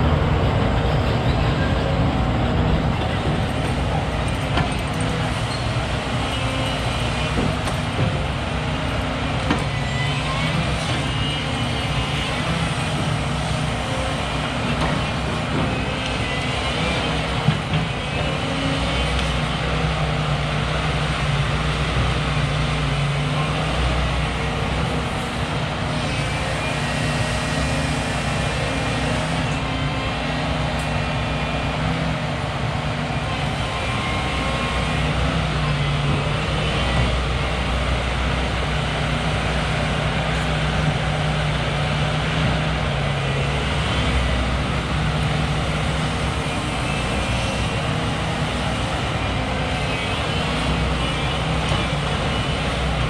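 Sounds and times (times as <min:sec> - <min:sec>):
road noise: 0:00.0 - 0:53.0.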